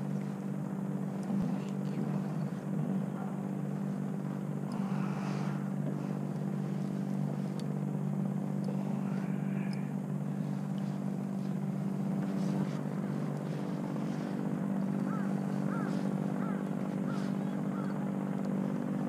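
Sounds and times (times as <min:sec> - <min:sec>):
low engine-like drone: 0:00.0 - 0:19.0.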